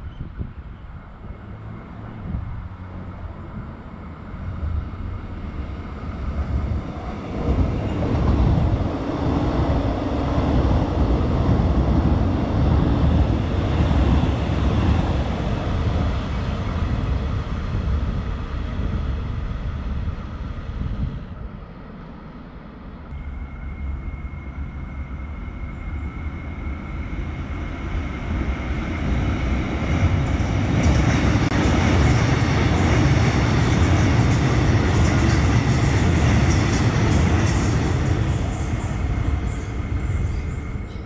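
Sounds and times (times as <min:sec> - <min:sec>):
electric train passing: 0:00.0 - 0:41.0.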